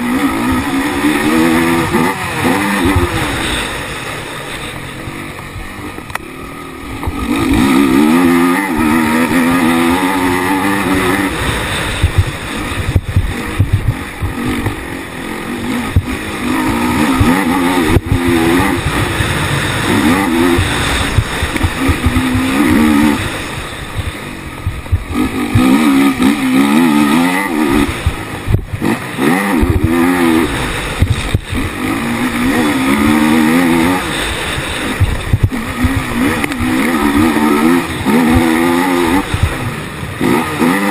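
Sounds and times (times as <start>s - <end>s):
quad engine revving: 0.0s - 40.9s
rushing wind: 0.0s - 40.9s.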